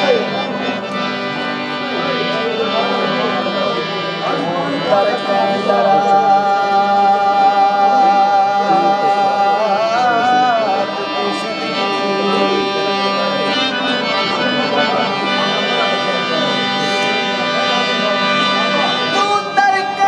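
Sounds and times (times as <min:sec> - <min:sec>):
harmonium chords: 0:00.0 - 0:20.0.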